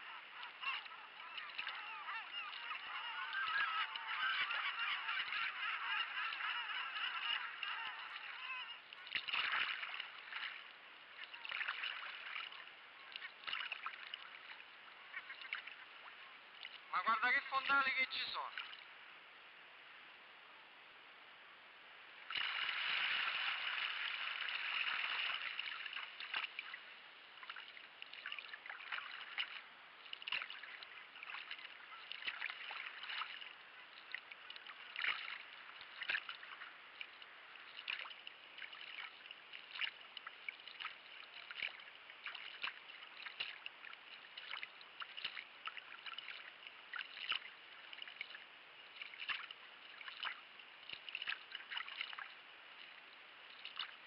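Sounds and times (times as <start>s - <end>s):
paddle blades splashing in water: 0.0s - 16.9s, 22.3s - 54.0s
rush of water: 0.0s - 20.1s, 21.4s - 54.0s.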